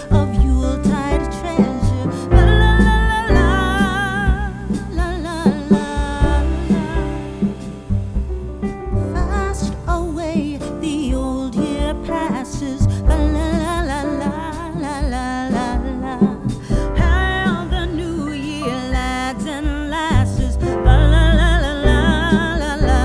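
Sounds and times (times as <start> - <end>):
person singing with vibrato: 0.0 - 8.0, 9.1 - 23.0
instrumental accompaniment: 0.0 - 23.0.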